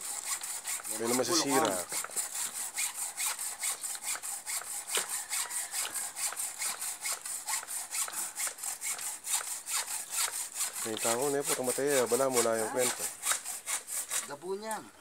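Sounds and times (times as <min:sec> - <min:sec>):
high-pitched pulsing rasp: 0:00.0 - 0:14.8.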